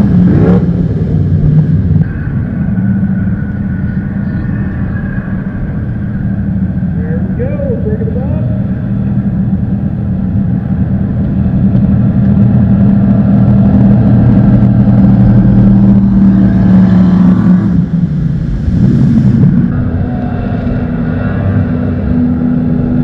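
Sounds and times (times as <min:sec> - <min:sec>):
jet boat engines droning: 0:00.0 - 0:23.0
rising whine: 0:00.0 - 0:23.0.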